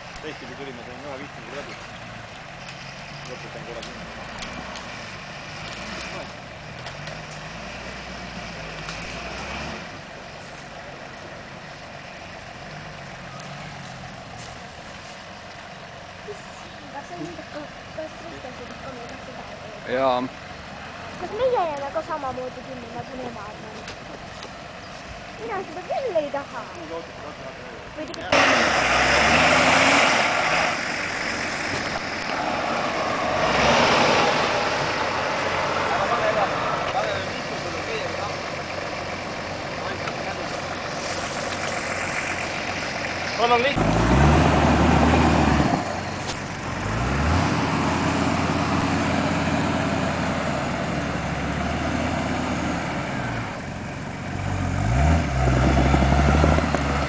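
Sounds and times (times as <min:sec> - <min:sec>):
off-road vehicle engine under load: 0:00.0 - 0:57.0.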